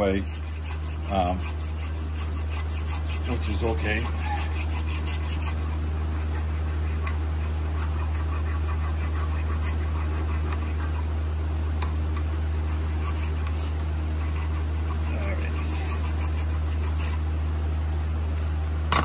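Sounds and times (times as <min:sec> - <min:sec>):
file scraping rust off metal: 0:00.0 - 0:17.2
steady low hum: 0:00.0 - 0:19.0.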